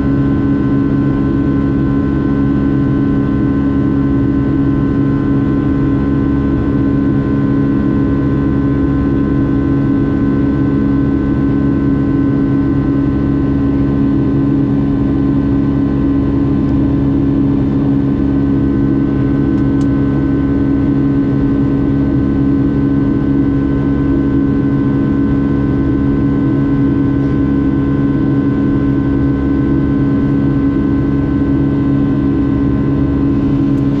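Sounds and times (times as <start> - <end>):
airliner cabin engine and airflow noise: 0.0 - 34.0
constant hum tones: 0.0 - 34.0.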